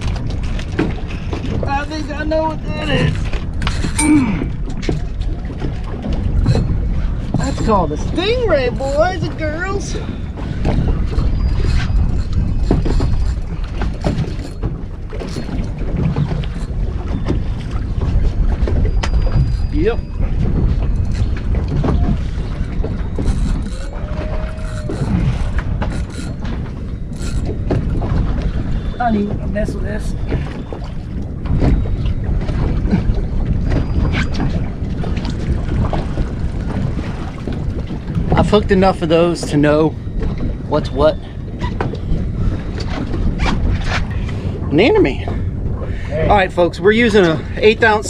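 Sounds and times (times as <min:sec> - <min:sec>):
water lapping against boat hull: 0:00.0 - 0:48.0
wind buffeting microphone: 0:00.0 - 0:48.0.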